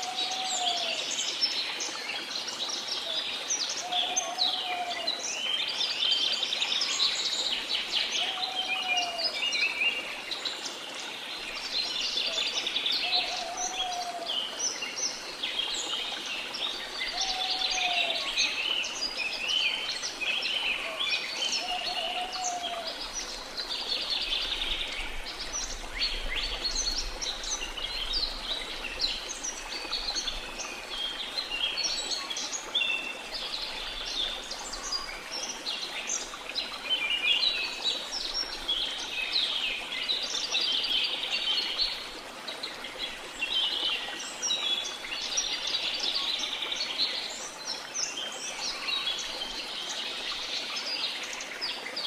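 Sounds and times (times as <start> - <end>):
jungle birds chirping: 0.0 - 52.0.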